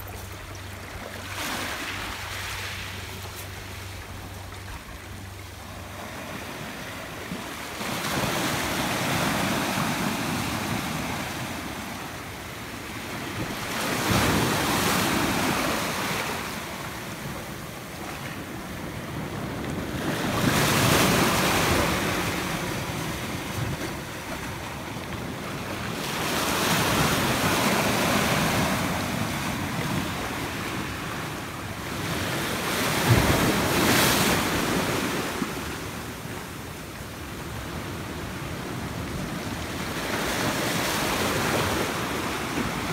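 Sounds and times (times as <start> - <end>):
surf waves breaking on shore: 0.0 - 42.9.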